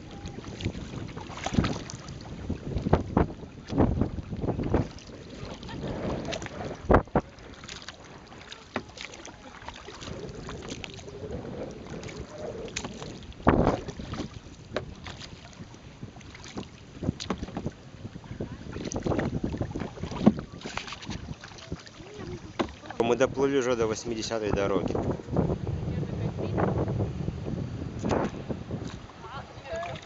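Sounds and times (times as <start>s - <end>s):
wind buffeting microphone: 0.0s - 8.5s, 9.4s - 30.0s
paddle strokes: 0.0s - 25.5s, 27.9s - 30.0s
water splashing against hull: 0.0s - 30.0s.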